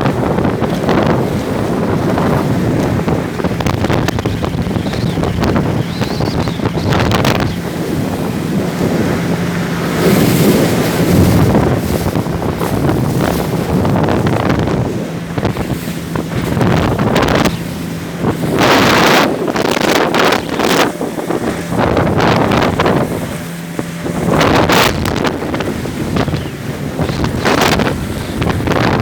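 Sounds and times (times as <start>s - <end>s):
low motor hum: 0.0s - 29.0s
wind buffeting microphone: 0.0s - 29.0s.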